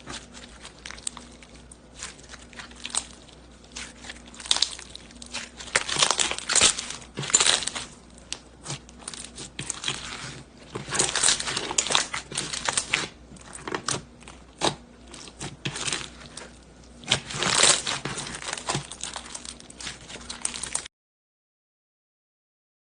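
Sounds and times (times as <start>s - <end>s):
slime squished by hand: 0.0s - 20.9s.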